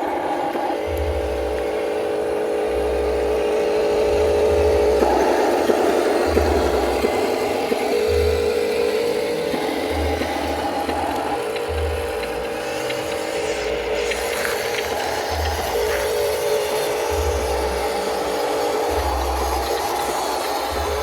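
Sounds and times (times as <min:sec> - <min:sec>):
electric motors whirring: 0:00.0 - 0:21.0.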